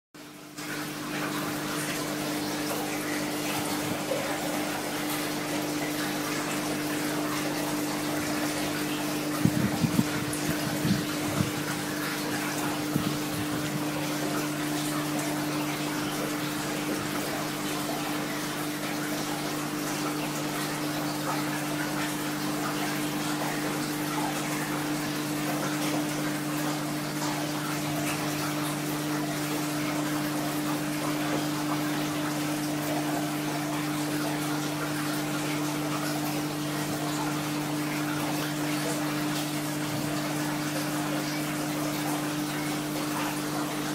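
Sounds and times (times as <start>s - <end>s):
pump electric hum: 0.2s - 43.9s
rushing water: 0.2s - 43.9s.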